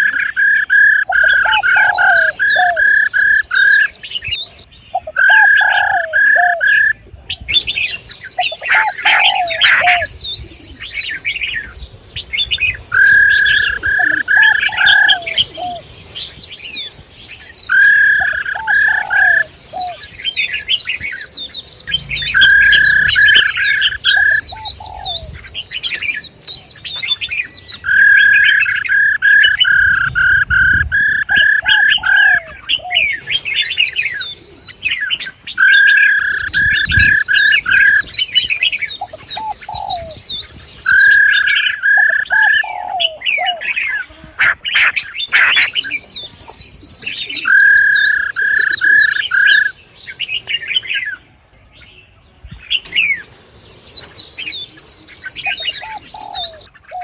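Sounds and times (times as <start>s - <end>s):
rapid repeated bird notes: 0.0s - 51.4s, 52.0s - 57.0s
songbirds chirping: 0.0s - 57.0s.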